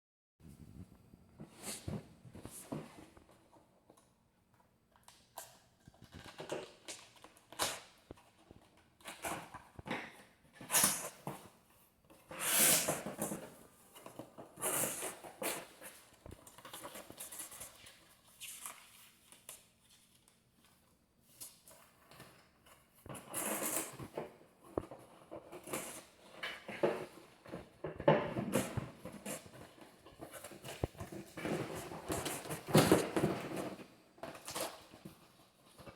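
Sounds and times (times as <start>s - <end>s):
packaging rustling and scraping: 5.4s - 35.9s.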